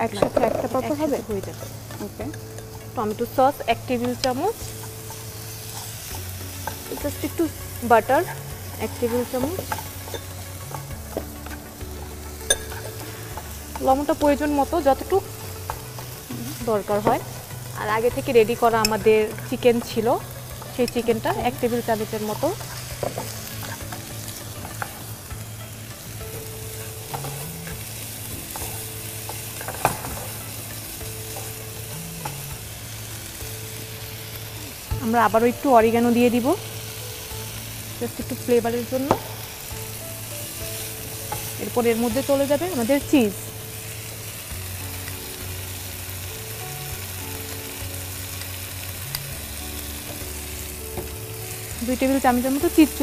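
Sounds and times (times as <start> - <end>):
food sizzling in frying pan: 0.0 - 53.0
soft background music: 0.0 - 53.0.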